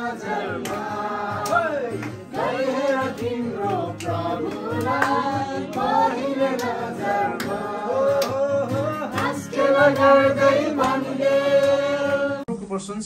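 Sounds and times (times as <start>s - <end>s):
strummed acoustic guitar: 0.0s - 12.4s
group singing a carol: 0.0s - 12.5s
hand claps: 0.4s - 12.0s.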